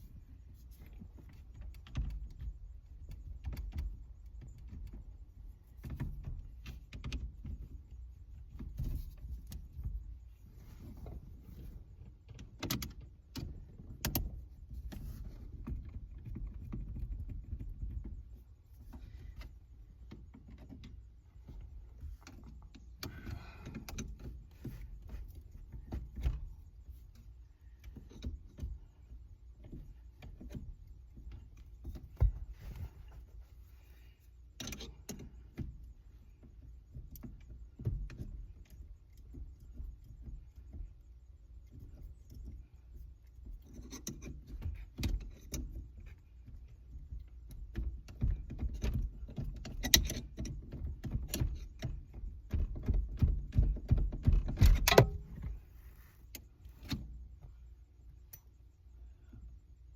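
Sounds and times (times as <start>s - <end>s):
hand tools and metal parts rattling: 0.0s - 59.8s.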